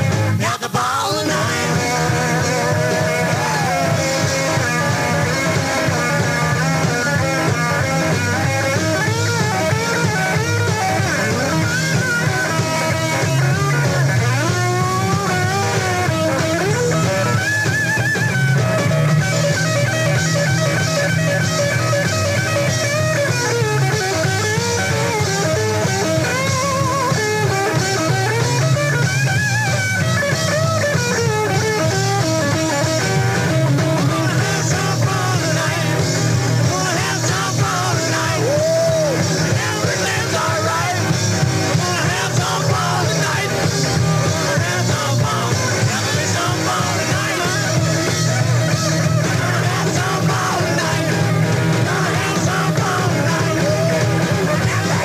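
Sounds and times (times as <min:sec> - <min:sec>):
electric guitar solo: 0:00.0 - 0:55.0
rock band playing live: 0:00.0 - 0:55.0.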